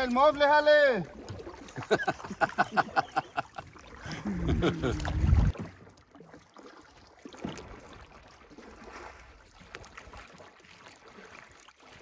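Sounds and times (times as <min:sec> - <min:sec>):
faint water sounds: 0:00.0 - 0:12.0
paddle stroke in water: 0:00.0 - 0:12.0.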